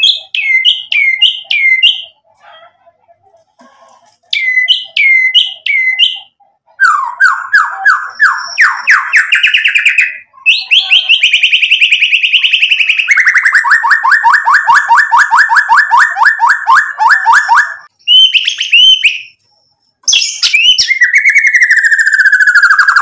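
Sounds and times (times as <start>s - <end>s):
songbird whistling and trilling: 0.0s - 2.2s, 4.3s - 19.4s, 20.0s - 23.0s.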